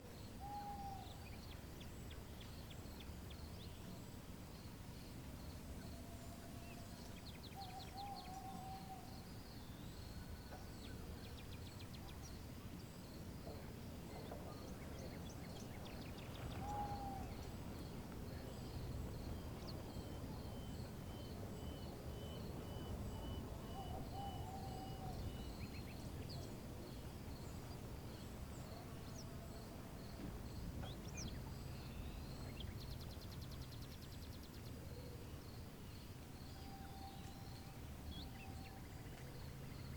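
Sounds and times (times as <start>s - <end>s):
low wind rumble: 0.2s - 39.9s.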